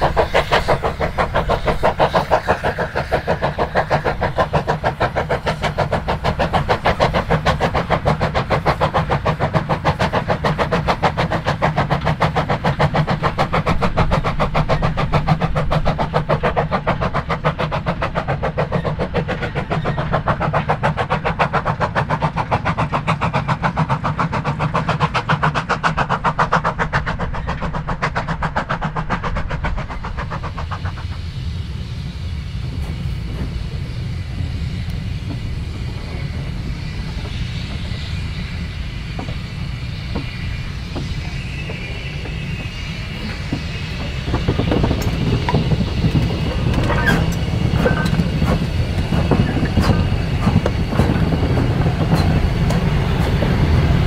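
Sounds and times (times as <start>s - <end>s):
steam locomotive exhaust beating: 0.0s - 54.0s.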